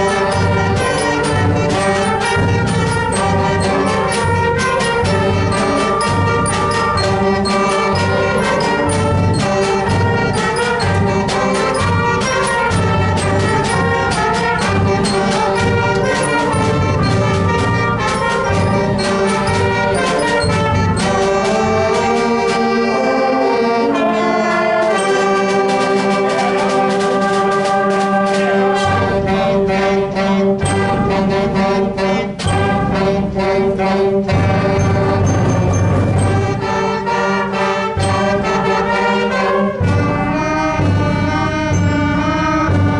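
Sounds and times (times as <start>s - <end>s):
concert band playing: 0.0s - 42.9s
drum strokes: 0.0s - 42.9s.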